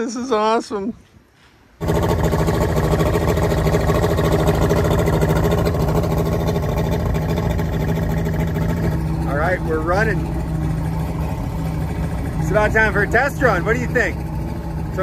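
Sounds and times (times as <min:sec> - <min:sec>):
outboard motor running: 0:01.8 - 0:15.0.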